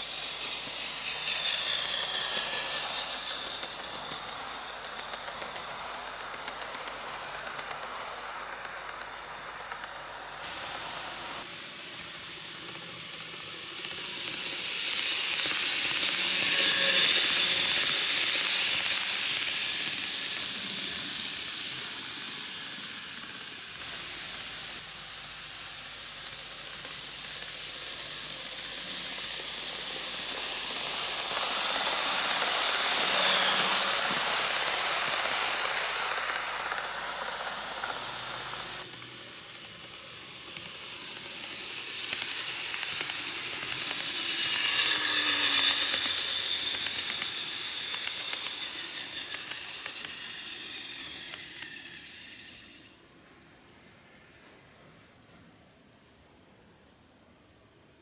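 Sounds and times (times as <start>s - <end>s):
model train wheels clattering: 0.0s - 53.0s.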